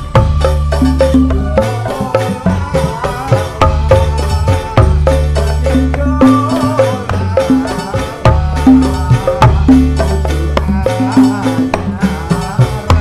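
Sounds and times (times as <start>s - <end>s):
drums and percussion beat: 0.0s - 13.0s
wavering melody: 0.0s - 13.0s.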